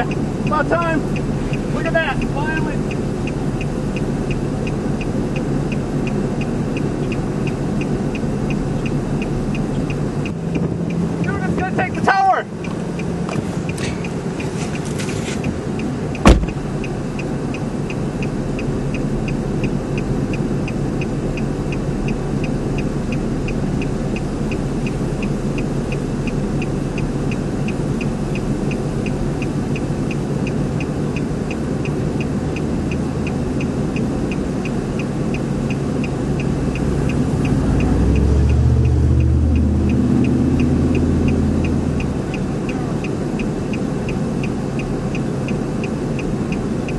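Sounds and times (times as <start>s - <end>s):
car engine running: 0.0s - 46.9s
faint regular ticking: 0.0s - 46.9s.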